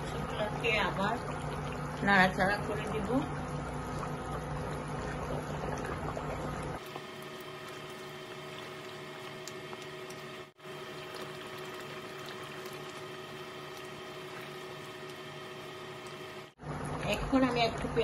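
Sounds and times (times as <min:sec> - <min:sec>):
curry bubbling in a pot: 0:00.0 - 0:17.9.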